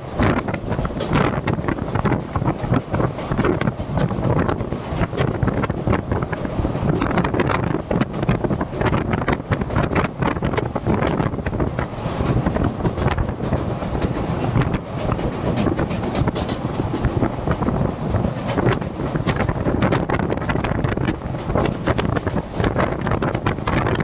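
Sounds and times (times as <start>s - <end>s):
train rumbling on rails: 0.0s - 24.0s
wheel and track clatter: 0.0s - 24.0s.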